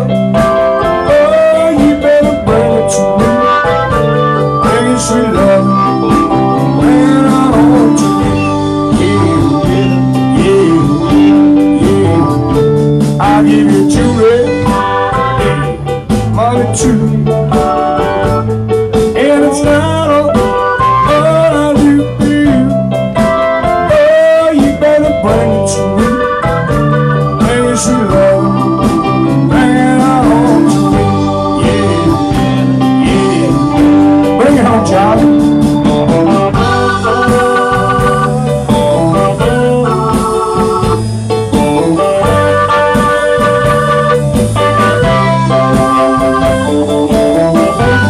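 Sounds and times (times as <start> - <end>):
blues-rock band playing: 0.0 - 48.0
man singing: 0.0 - 48.0.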